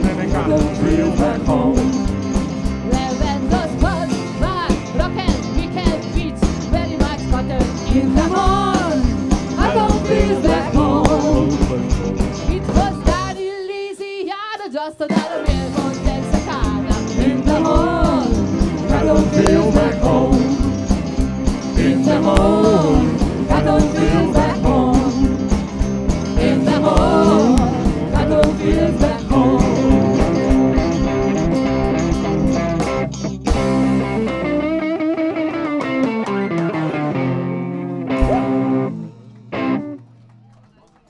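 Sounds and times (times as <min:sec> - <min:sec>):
live country-rock band playing: 0:00.0 - 0:13.4, 0:15.4 - 0:40.0.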